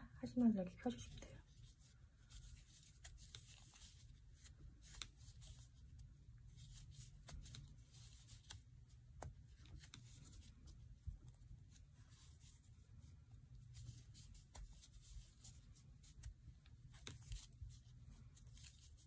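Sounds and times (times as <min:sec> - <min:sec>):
yarn rustling through crochet stitches: 0:00.5 - 0:19.0.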